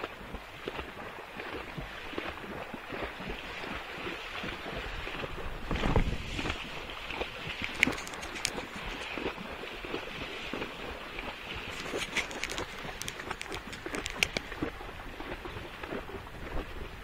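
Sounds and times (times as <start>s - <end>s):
hooves splashing in water: 0.0s - 17.0s
wind on microphone: 0.1s - 17.0s.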